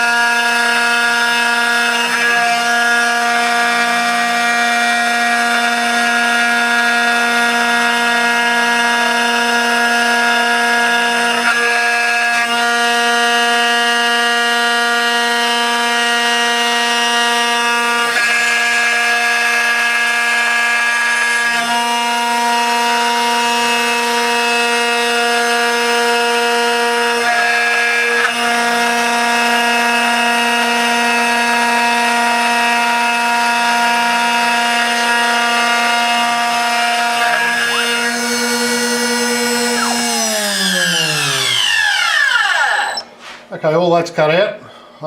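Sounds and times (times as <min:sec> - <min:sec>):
router spindle high-pitched whine: 0:00.0 - 0:43.2.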